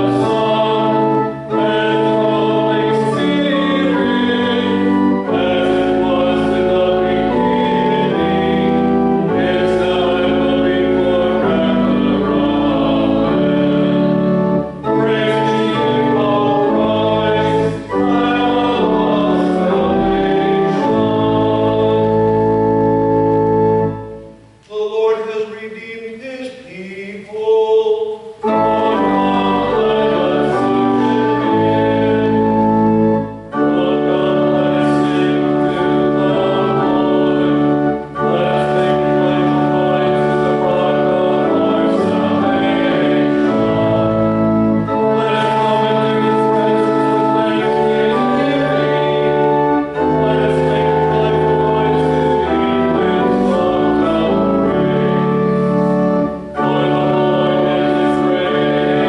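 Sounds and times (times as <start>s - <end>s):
congregation singing a hymn: 0.0s - 59.0s
pipe organ: 0.0s - 59.0s.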